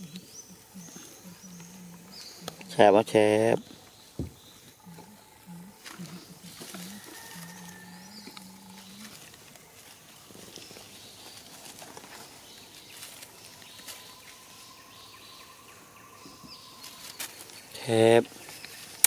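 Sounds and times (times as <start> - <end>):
even outdoor hiss: 0.0 - 19.0.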